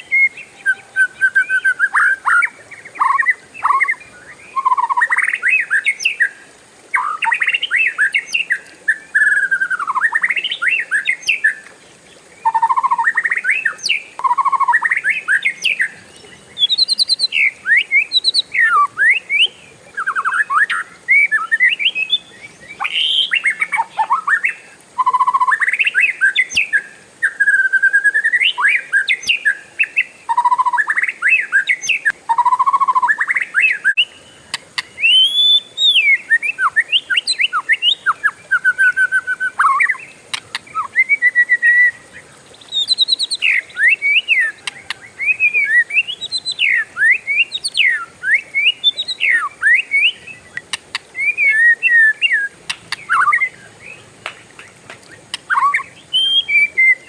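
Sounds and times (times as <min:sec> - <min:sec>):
bird singing whistles and trills: 0:00.0 - 0:11.7, 0:12.4 - 0:54.0, 0:54.6 - 0:57.0.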